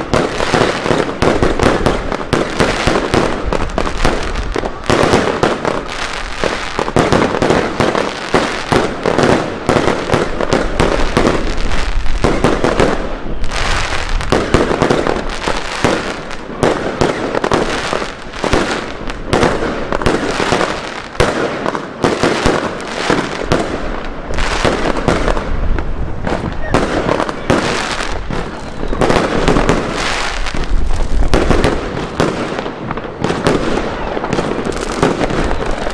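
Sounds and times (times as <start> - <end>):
fireworks bangs and pops: 0.0 - 35.9.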